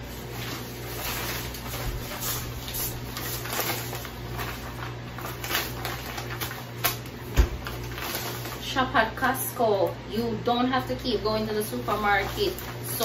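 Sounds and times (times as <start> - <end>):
plastic bag rustling: 0.0 - 9.4, 10.8 - 13.0.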